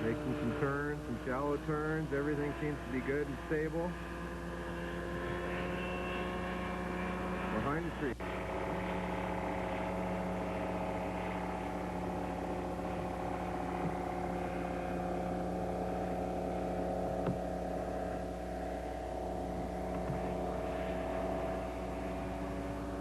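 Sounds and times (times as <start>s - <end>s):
ultralight engine drone: 0.0s - 23.0s.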